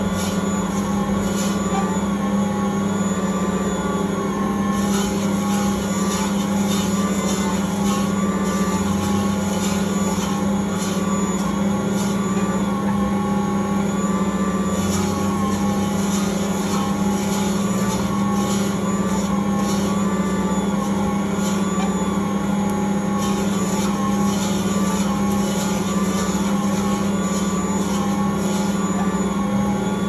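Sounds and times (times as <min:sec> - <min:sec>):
stand mixer motor hum: 0:00.0 - 0:30.0.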